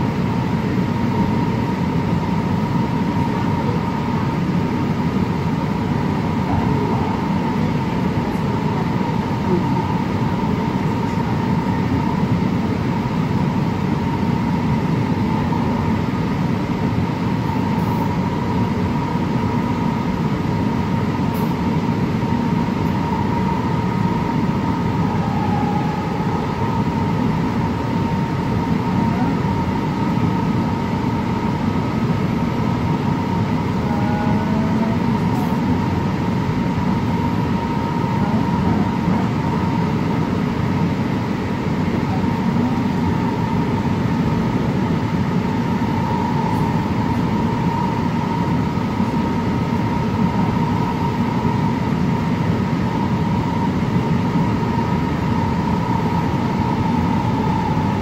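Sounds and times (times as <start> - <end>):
wheels rumbling on rail: 0.0 - 16.6, 17.2 - 51.1
steady high whine: 0.0 - 58.0.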